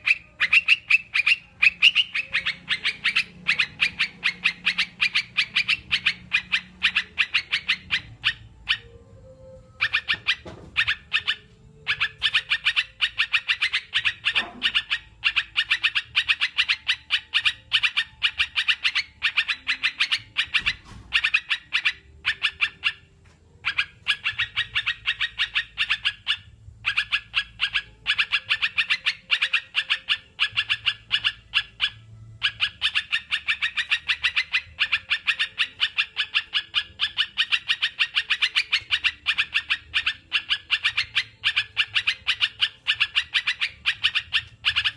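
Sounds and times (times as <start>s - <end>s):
bird chirping: 0.0s - 44.9s.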